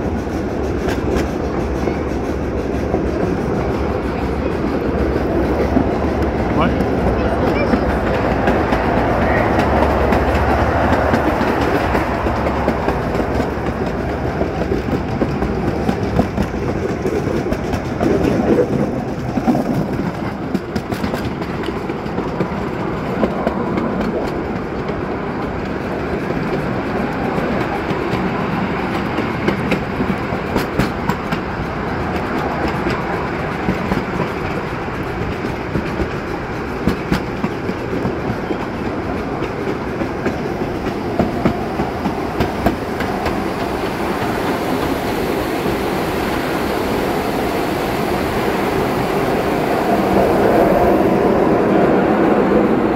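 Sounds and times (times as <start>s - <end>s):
miniature train rumbling on track: 0.0s - 52.9s
wheels clattering over rails: 0.0s - 52.9s.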